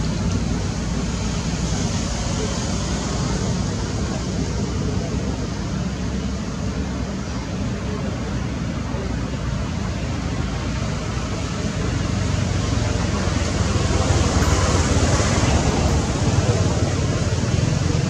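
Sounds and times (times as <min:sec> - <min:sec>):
rushing outdoor noise: 0:00.0 - 0:18.0.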